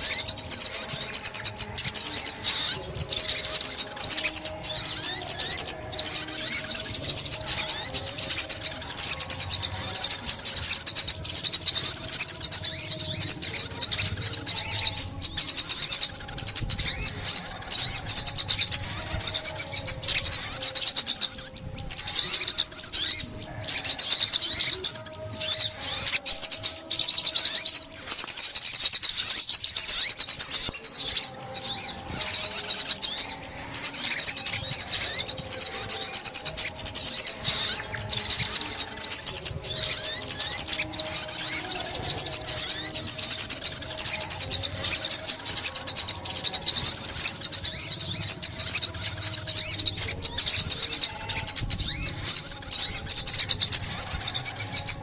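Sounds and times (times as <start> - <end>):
bird twittering and trilling: 0.0 - 55.0.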